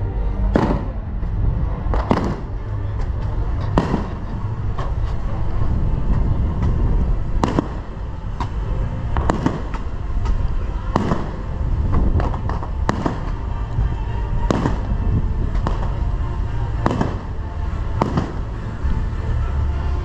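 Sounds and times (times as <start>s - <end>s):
steady low rumble: 0.0s - 20.0s
fireworks bangs: 0.4s - 1.2s, 1.8s - 5.5s, 6.1s - 18.7s.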